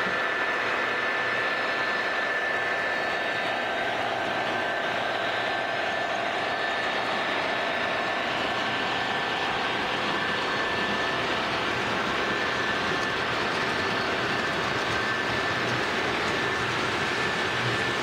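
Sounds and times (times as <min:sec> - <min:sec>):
thin steady whine: 0:00.0 - 0:18.0.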